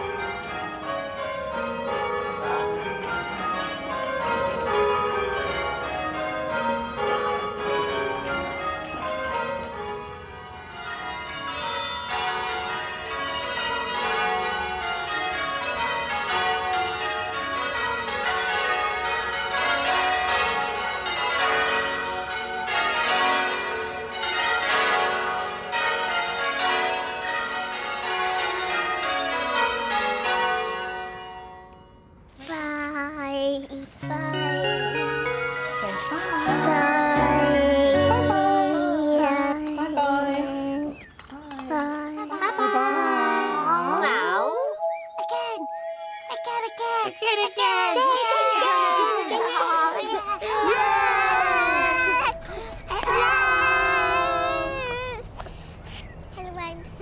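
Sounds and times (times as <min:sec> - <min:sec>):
church bells ringing: 0:00.0 - 0:32.4, 0:33.0 - 0:57.0.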